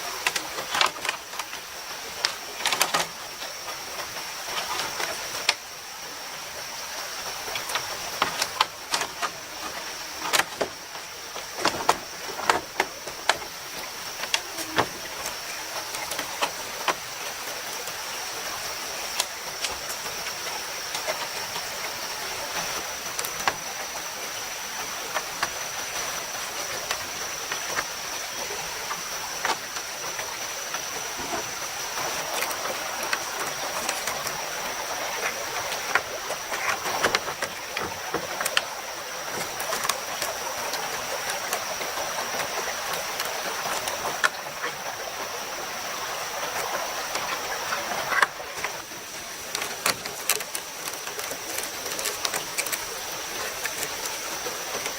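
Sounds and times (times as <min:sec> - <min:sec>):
mountain stream rushing: 0:00.0 - 0:54.9.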